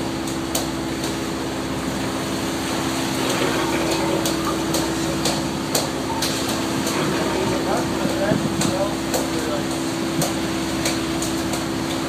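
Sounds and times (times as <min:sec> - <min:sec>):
boat engine humming: 0:00.0 - 0:12.0
rushing wake water: 0:00.0 - 0:12.0.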